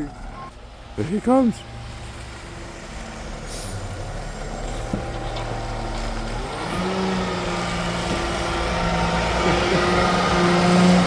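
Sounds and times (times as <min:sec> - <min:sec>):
garbage truck diesel engine revving: 0:00.0 - 0:11.0.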